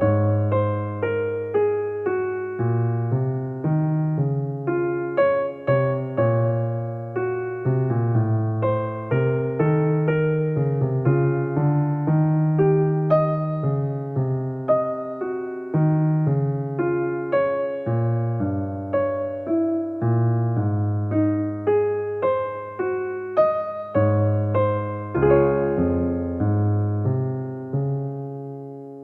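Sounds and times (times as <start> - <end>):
slow keyboard melody: 0.0 - 29.0.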